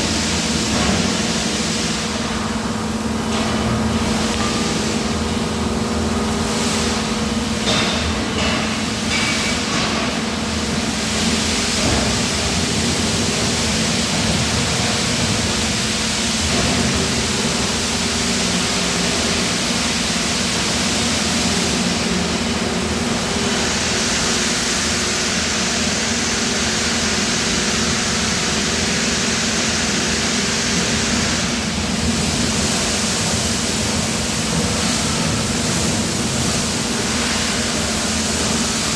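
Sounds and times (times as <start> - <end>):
machinery humming: 0.0 - 38.9.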